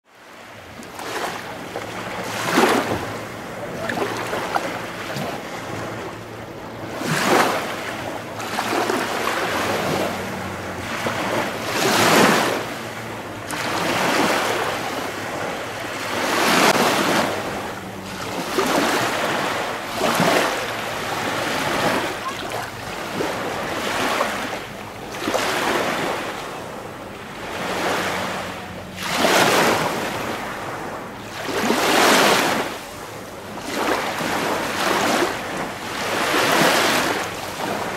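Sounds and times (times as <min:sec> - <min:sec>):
wind: 0:00.0 - 0:37.9
water waves washing in: 0:00.1 - 0:37.9.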